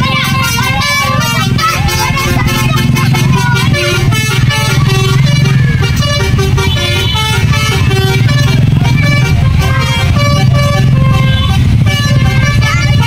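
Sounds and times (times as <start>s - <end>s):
bus engine humming: 0.0s - 13.0s
multi-tone bus horn tune: 0.0s - 13.0s.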